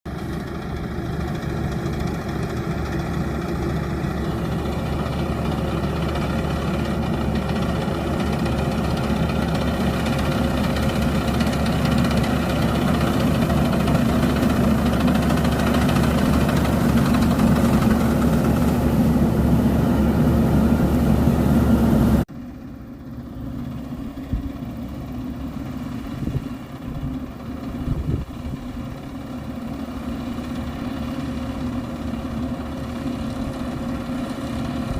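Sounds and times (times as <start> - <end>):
diesel engine running under load: 0.1 - 34.9.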